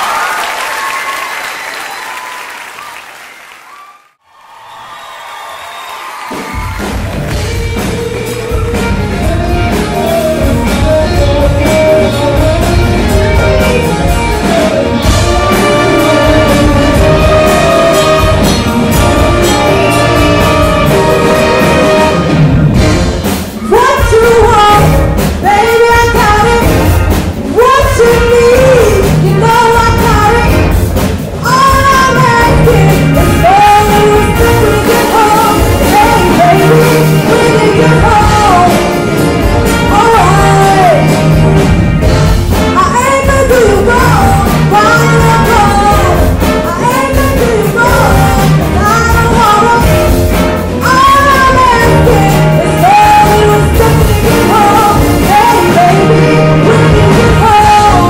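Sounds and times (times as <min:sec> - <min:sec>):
jazz band playing pop cover: 0:06.2 - 0:58.0
woman singing lead vocal: 0:07.4 - 0:22.2, 0:23.6 - 0:30.7, 0:31.4 - 0:41.4, 0:42.6 - 0:58.0.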